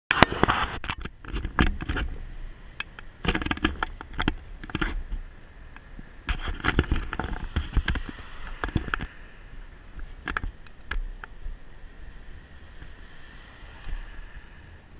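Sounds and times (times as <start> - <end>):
wind buffeting microphone: 0.2 - 14.9
low rumble: 1.5 - 14.9.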